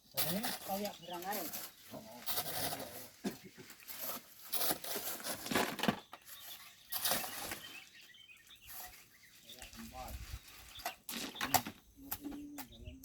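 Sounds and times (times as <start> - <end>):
hand tools scraping gravel: 0.0 - 11.8.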